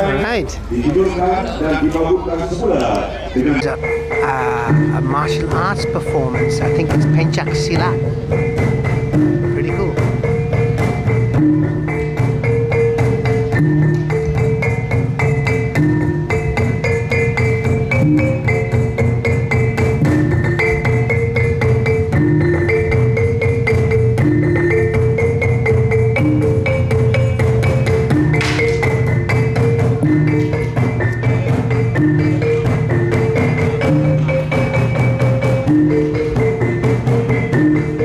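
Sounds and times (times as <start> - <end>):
pitched struck notes: 0.0 - 38.0
fast drumming: 3.5 - 38.0.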